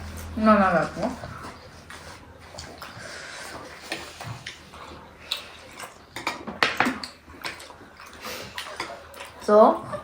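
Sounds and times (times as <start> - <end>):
chewing smacks: 1.2 - 10.0.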